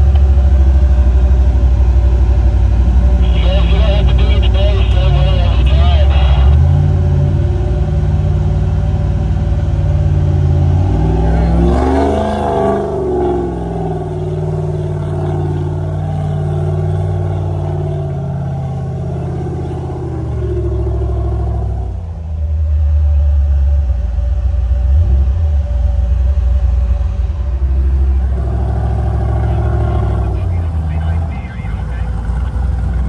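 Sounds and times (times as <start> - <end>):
heavy low rumble: 0.0 - 33.0
off-road vehicle engine at low revs: 0.0 - 33.0.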